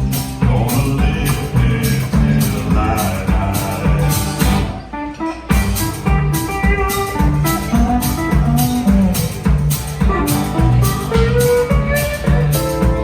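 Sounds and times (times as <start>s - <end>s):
country band playing: 0.0s - 13.0s.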